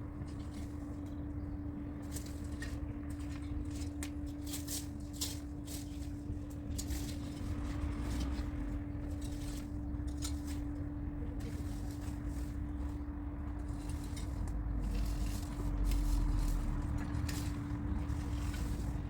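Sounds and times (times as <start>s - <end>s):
garden debris scraping and rustling: 0.0s - 19.0s
low hum and rumble: 0.0s - 19.0s.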